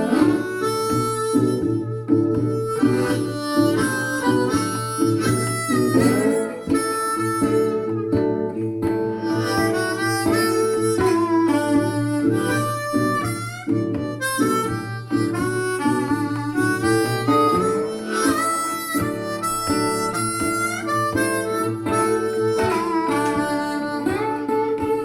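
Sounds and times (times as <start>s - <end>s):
harmonica melody: 0.0s - 25.0s
plucked guitar: 0.0s - 25.0s.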